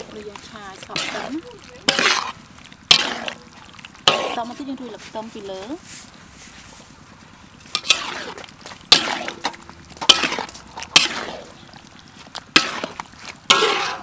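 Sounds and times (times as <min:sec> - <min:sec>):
ladle scraping wok: 0:00.0 - 0:14.0.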